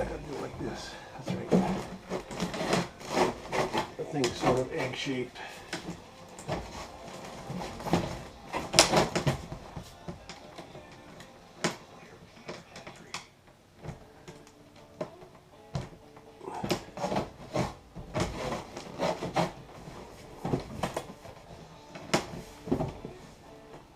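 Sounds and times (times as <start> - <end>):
gear knocking and rubbing: 0.0 - 14.1, 16.5 - 23.2.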